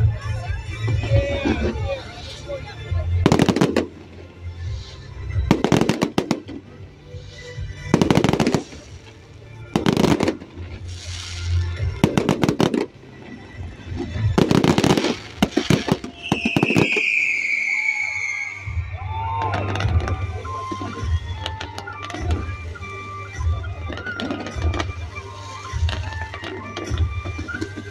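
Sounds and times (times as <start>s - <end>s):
fireworks bursting with sharp bangs: 0.0s - 27.9s.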